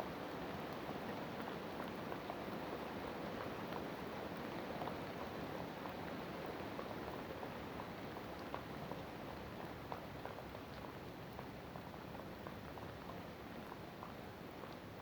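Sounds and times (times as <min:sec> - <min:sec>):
steady rain falling: 0:00.1 - 0:15.0.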